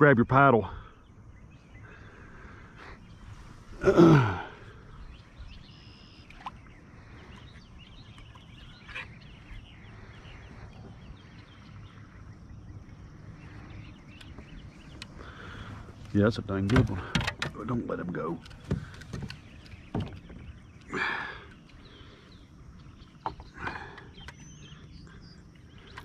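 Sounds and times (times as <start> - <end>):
faint high bird calls: 0.4 - 16.7, 17.6 - 26.0.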